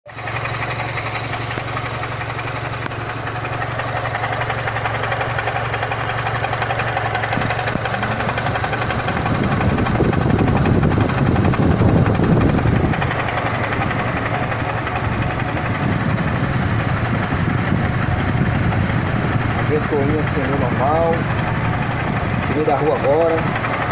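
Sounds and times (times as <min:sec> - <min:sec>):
car engine idling: 0:00.1 - 0:23.9
rough engine noise: 0:00.1 - 0:23.9.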